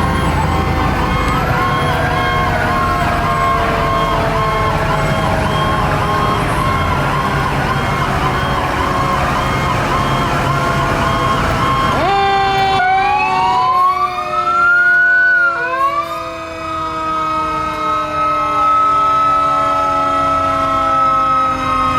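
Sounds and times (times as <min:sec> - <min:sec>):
fire truck siren yelping: 0:00.0 - 0:21.9
overlapping sliding siren tones: 0:00.0 - 0:21.9.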